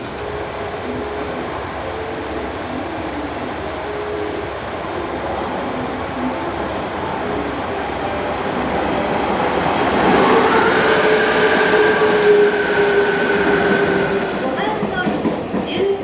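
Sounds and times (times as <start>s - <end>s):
two-note whine: 0.0s - 14.6s
electric train rumbling: 0.0s - 16.0s.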